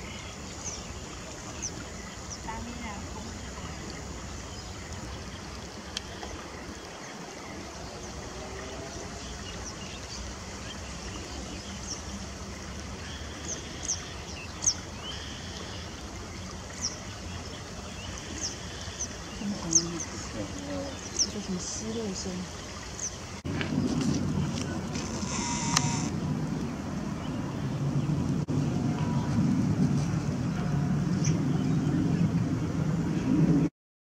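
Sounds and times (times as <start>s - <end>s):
outdoor background hiss: 0.0s - 33.3s.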